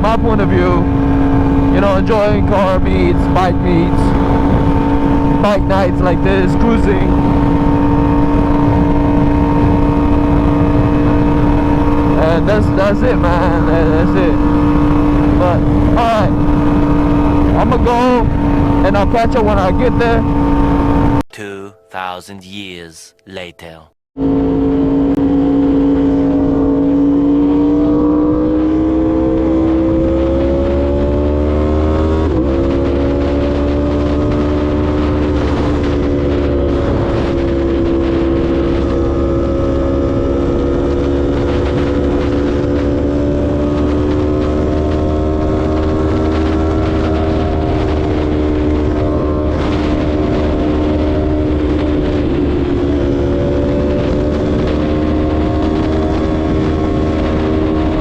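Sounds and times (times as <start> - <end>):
motorcycle engine at high revs: 0.0 - 21.2, 24.2 - 58.0
wind rumble: 0.0 - 21.2, 24.7 - 58.0.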